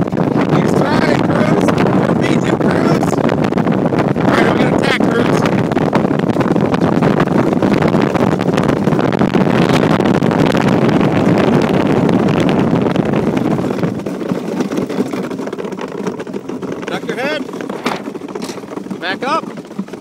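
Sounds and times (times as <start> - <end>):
iceboat runners rumbling over ice: 0.0 - 20.0
wind buffeting microphone: 0.0 - 20.0.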